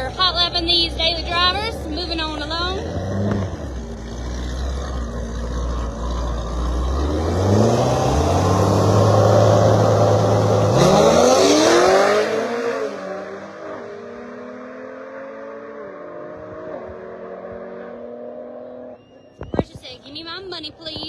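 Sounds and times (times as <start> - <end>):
race car engines launching: 2.4 - 19.4.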